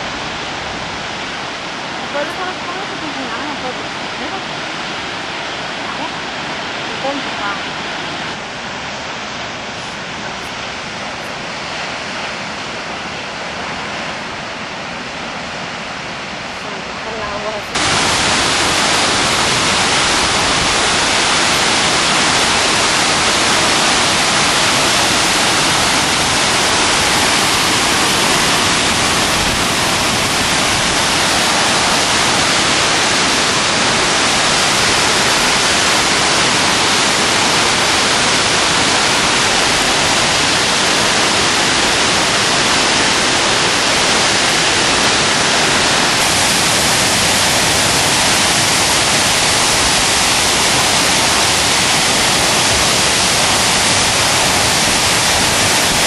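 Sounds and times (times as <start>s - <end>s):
waterfall rushing onto rocks: 0.0s - 56.0s.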